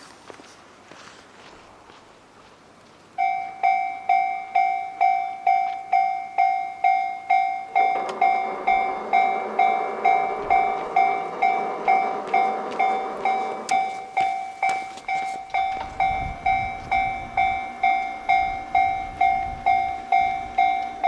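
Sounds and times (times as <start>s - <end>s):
train rumbling: 1.5s - 21.0s
level crossing alarm dinging: 3.2s - 21.0s.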